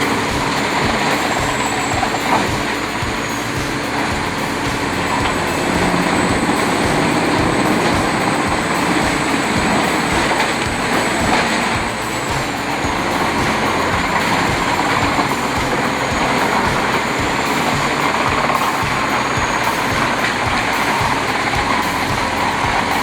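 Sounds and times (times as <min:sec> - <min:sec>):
faint high whine: 0:00.0 - 0:23.0
wood-processing machine running: 0:00.0 - 0:23.0.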